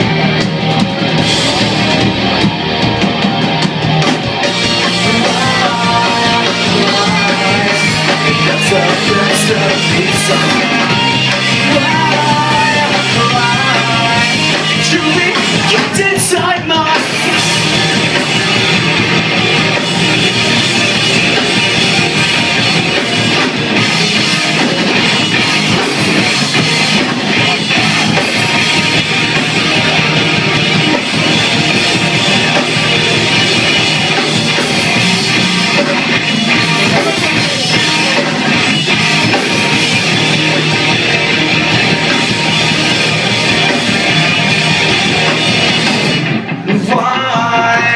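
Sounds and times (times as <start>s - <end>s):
loud instrumental rock music: 0.0s - 47.9s.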